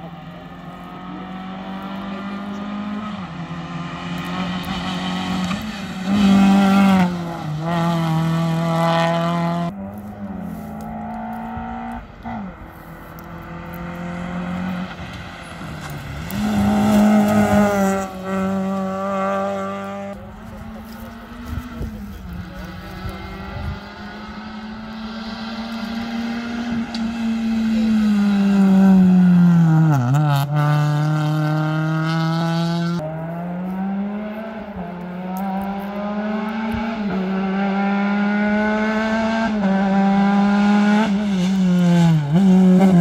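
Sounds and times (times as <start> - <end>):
rally car engines revving past: 0.0 - 43.0.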